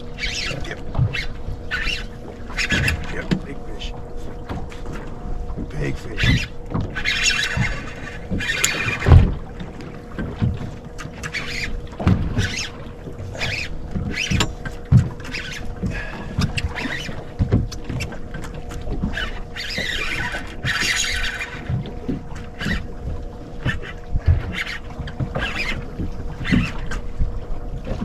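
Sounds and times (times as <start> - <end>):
faint steady hum: 0.0 - 28.0
water splashing: 0.0 - 28.0.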